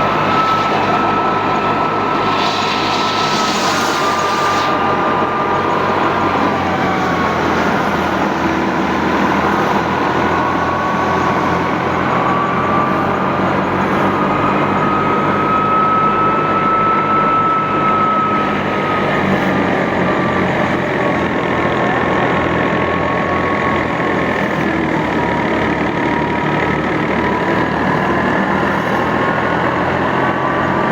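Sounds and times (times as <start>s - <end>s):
high whine: 0.0s - 30.9s
tractor diesel engine running: 0.0s - 30.9s.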